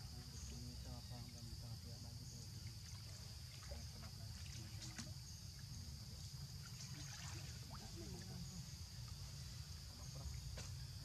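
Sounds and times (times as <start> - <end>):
high insect hum: 0.0 - 11.0.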